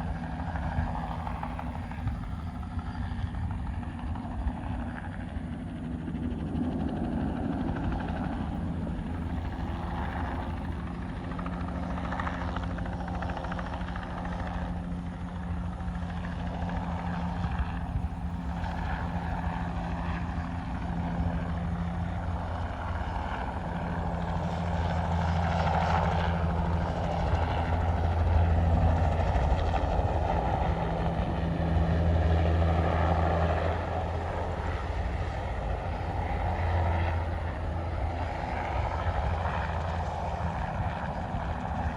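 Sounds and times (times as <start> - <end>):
helicopter rotor and engine drone: 0.0 - 41.9.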